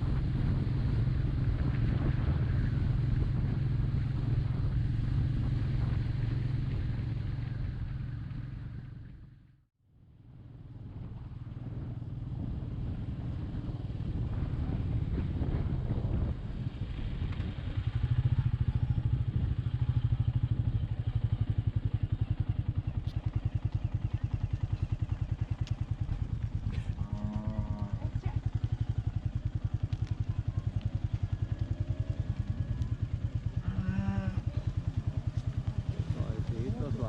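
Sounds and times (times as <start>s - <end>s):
motorcycle engine cruising: 0.0s - 9.5s, 10.3s - 37.0s.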